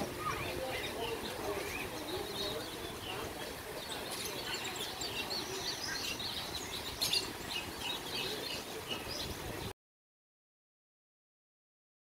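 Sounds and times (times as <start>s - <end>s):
birds chirping: 0.0s - 9.7s.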